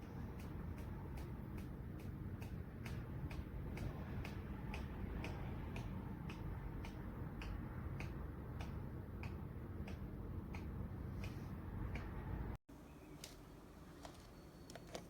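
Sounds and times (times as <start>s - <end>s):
light regular ticking: 0.0s - 12.4s.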